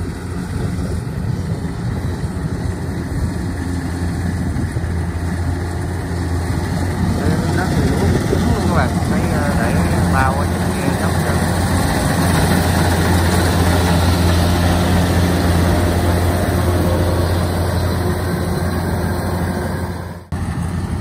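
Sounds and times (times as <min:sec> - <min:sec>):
combine harvester diesel drone: 0:00.0 - 0:21.0.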